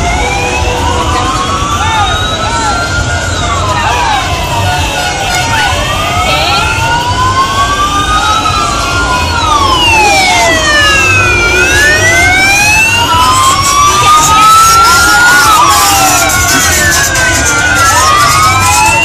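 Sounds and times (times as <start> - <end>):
low rumble of vehicles: 0.0 - 19.0
sirens wailing: 0.0 - 19.0.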